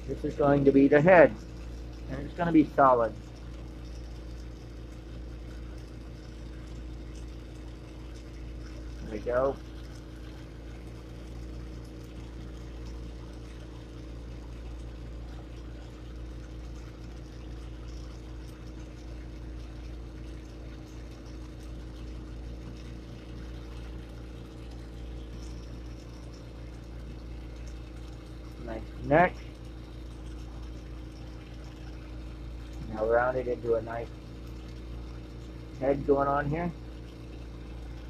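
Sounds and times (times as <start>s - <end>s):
low hum: 0.0s - 38.0s.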